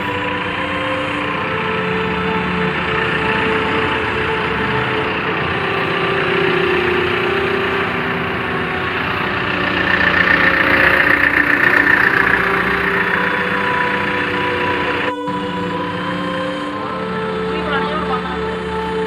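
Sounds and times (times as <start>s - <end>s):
high machine whine: 0.0s - 18.4s
crane diesel engine running: 0.0s - 19.0s.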